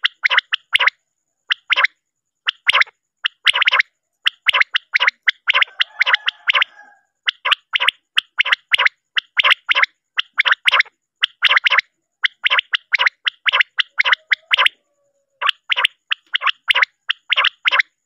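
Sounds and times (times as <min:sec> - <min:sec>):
quail calling: 0:00.0 - 0:18.0.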